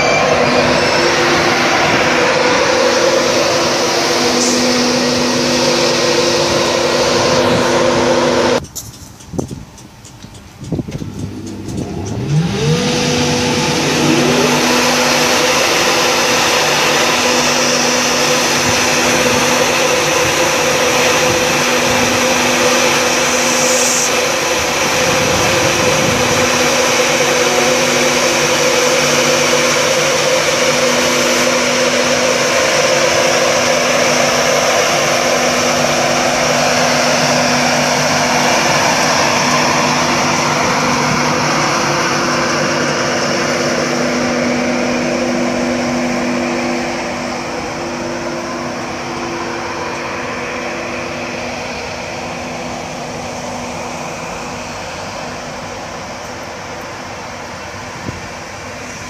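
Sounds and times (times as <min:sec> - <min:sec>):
train powering up with whine: 0:00.0 - 0:59.0.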